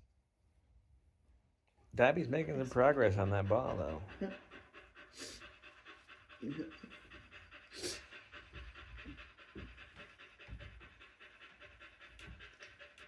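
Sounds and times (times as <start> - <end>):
dog panting: 2.2 - 13.0.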